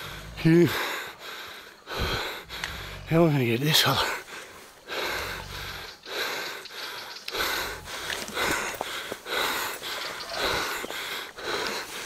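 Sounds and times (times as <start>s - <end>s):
person breathing hard: 0.0s - 3.2s, 3.8s - 12.0s.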